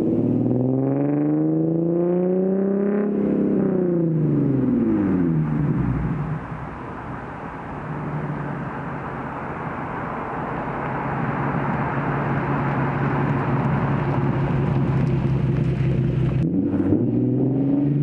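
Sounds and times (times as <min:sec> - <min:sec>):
car engine at steady revs: 0:00.0 - 0:18.0.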